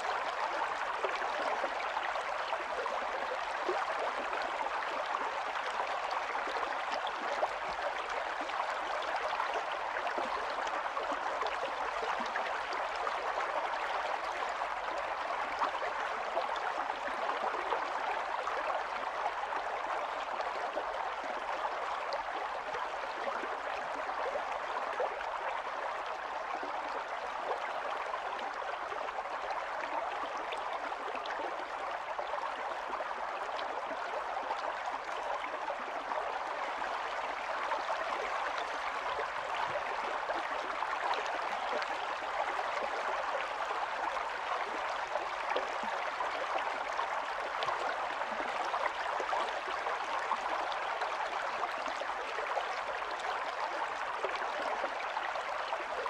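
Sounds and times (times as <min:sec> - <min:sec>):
stream burbling over stones: 0:00.0 - 0:56.0.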